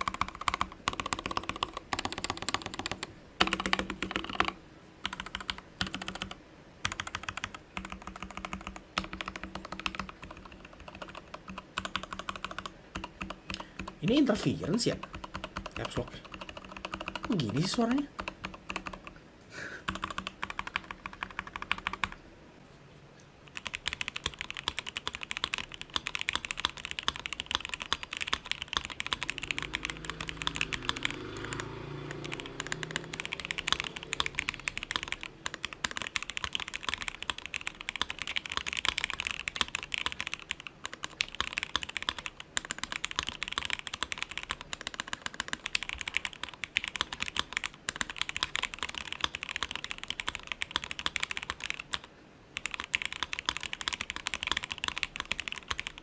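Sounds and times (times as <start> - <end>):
mechanical keyboard typing: 0.0 - 19.2, 19.8 - 22.2, 23.5 - 56.0.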